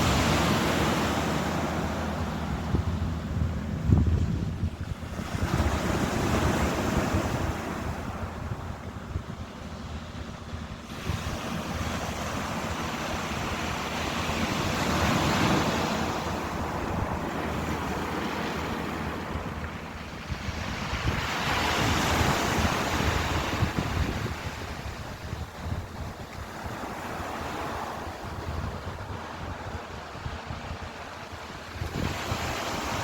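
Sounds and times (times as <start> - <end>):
ocean waves washing in: 0.0 - 33.0.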